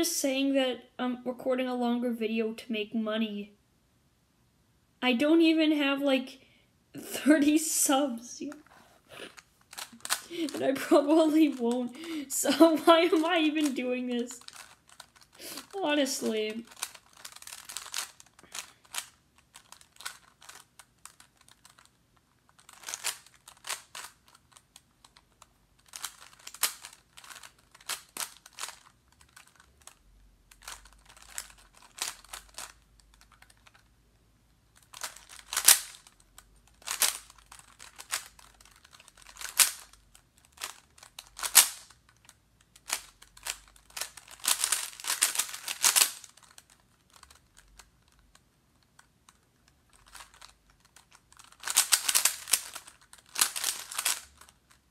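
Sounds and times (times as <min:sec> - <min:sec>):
puzzle cube clacking: 0:08.4 - 0:34.0, 0:34.7 - 0:54.9.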